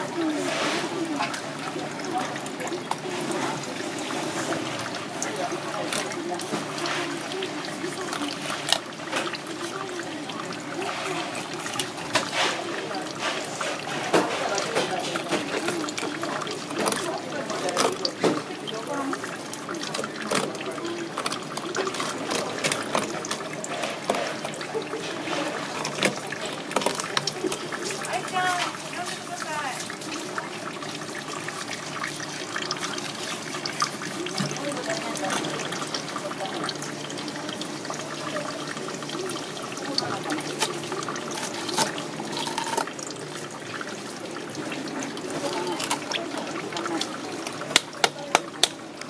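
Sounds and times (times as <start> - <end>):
water running and trickling: 0.0 - 49.0.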